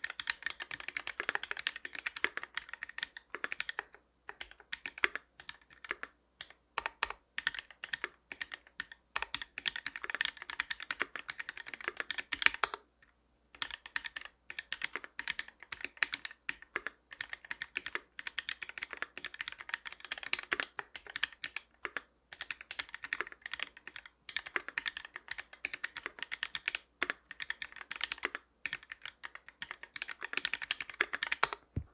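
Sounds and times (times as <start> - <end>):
mechanical keyboard typing: 0.0 - 12.8, 13.6 - 31.9.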